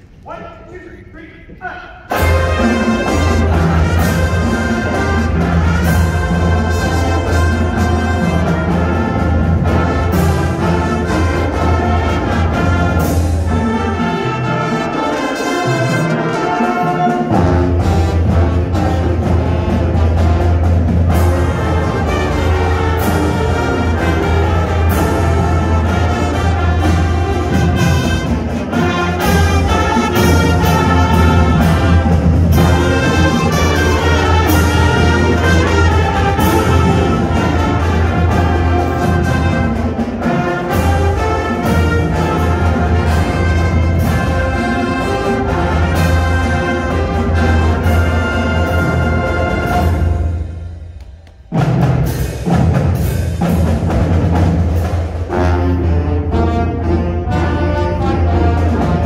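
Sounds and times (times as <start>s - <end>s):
marching band playing: 0.0s - 59.0s.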